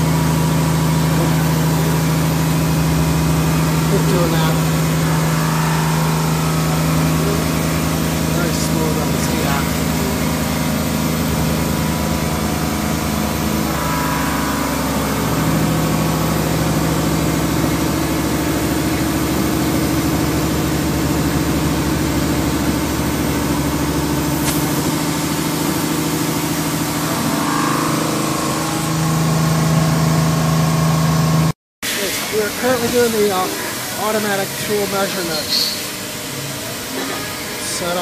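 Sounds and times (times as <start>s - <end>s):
machining center electric hum: 0.0s - 38.0s.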